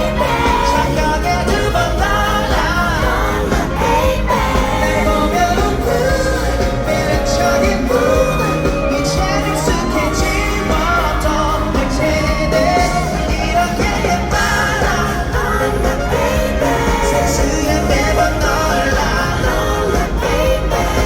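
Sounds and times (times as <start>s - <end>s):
live pop-rock band playing: 0.0s - 21.0s
person singing: 0.0s - 21.0s.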